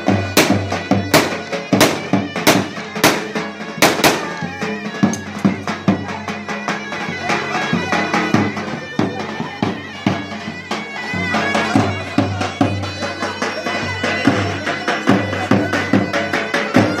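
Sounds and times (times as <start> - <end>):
drum beats: 0.0 - 17.0
shrill reed pipe melody: 0.0 - 17.0.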